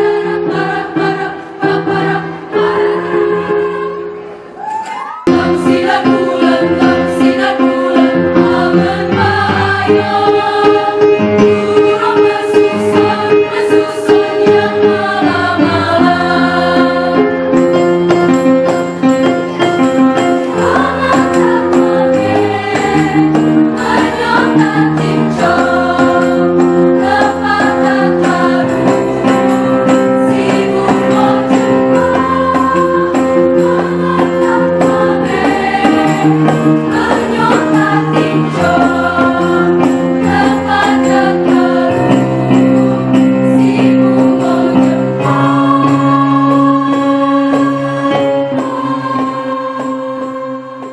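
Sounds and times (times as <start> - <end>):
girls' choir singing in harmony: 0.0 - 50.9.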